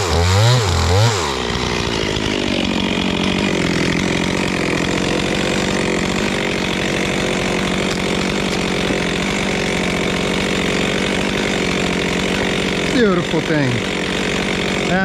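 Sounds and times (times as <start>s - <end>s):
chainsaw cutting tree stump: 0.0s - 15.0s.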